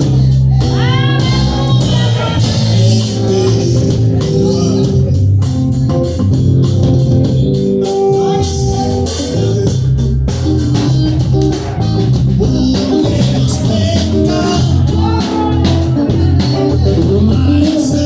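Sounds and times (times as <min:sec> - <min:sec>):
bass guitar: 0:00.0 - 0:18.0
drum kit: 0:00.0 - 0:18.0
guitar: 0:00.0 - 0:18.0.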